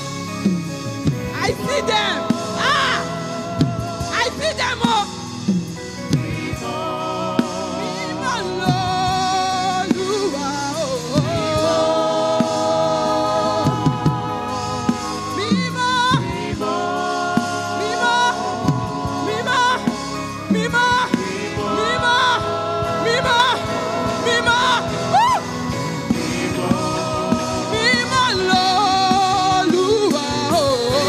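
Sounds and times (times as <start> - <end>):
keyboard chords: 0.0 - 31.0
voices singing and calling out: 1.4 - 5.1, 6.2 - 31.0.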